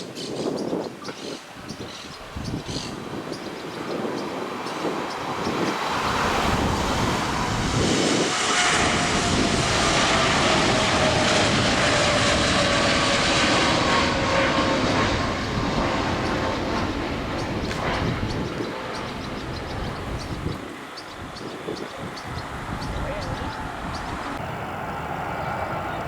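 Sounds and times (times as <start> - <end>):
airliner engines passing: 0.0 - 26.0.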